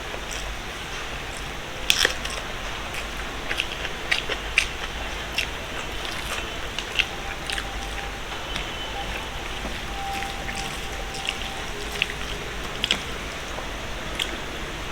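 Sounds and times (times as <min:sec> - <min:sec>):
steady background hiss: 0:00.0 - 0:14.9
person chewing: 0:00.1 - 0:14.5.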